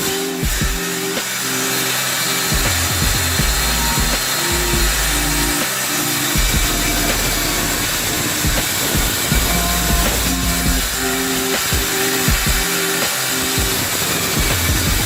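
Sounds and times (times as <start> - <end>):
background music with held notes: 0.0 - 15.0
power tool cutting wood: 0.0 - 15.0.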